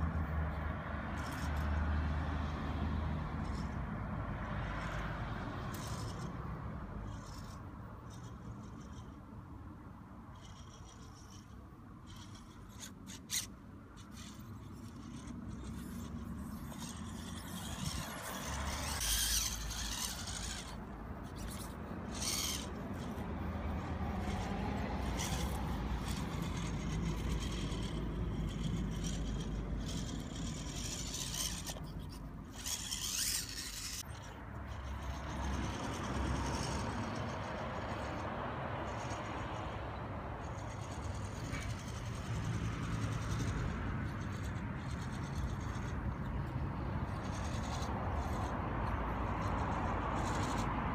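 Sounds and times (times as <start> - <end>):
electric motor and gears whirring: 0.0 - 50.9
low steady rumble: 2.7 - 50.9
tyres scraping on stone: 4.7 - 6.4, 10.4 - 39.7, 40.4 - 50.9.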